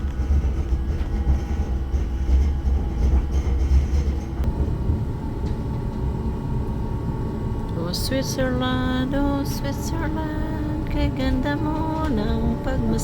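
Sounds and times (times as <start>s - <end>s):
train carriage rumbling on track: 0.0s - 6.2s, 7.8s - 13.0s
faint steady hum: 0.0s - 13.0s.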